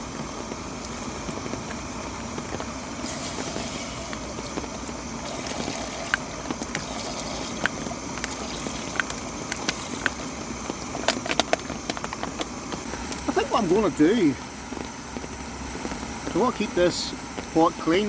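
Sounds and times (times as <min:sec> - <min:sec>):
bright hiss: 0:00.0 - 0:18.0
rain on a tarp: 0:00.0 - 0:18.0.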